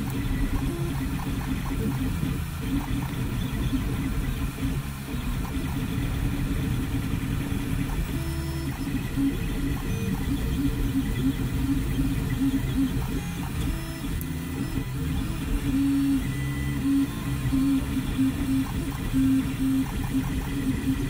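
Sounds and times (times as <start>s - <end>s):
cooling fans humming: 0.0s - 21.0s
stepper motors whirring: 0.0s - 21.0s.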